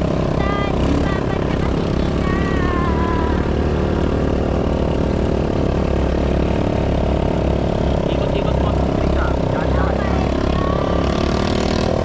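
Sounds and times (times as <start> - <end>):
quad engine running: 0.0 - 12.0.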